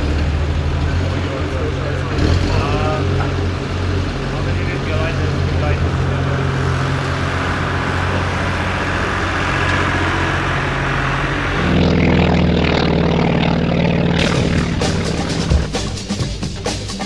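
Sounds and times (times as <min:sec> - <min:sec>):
aircraft piston engine running: 0:00.0 - 0:17.0.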